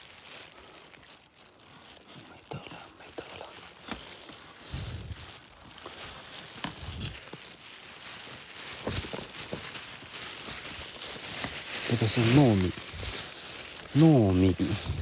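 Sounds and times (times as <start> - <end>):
plants and grass rustling: 0.0 - 15.0.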